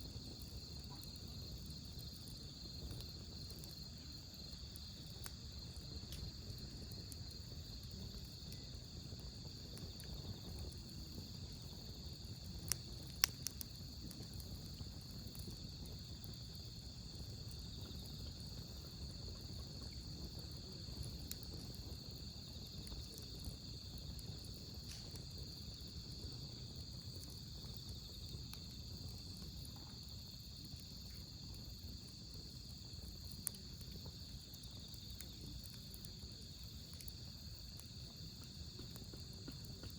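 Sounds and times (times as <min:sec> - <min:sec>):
campfire burning: 0:00.0 - 0:39.9
crickets chirping: 0:00.0 - 0:39.9
fire popping: 0:00.0 - 0:39.9.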